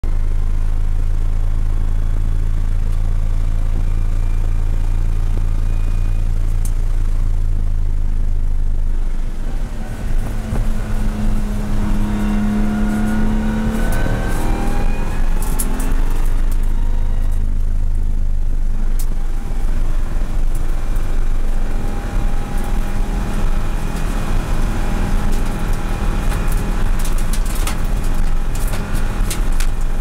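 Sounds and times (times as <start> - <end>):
race car engine from cockpit: 0.0 - 30.0.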